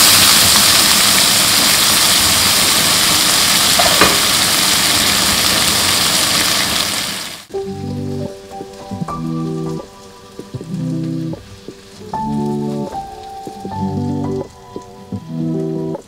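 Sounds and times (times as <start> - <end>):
water hissing in a hot skillet: 0.0 - 16.0.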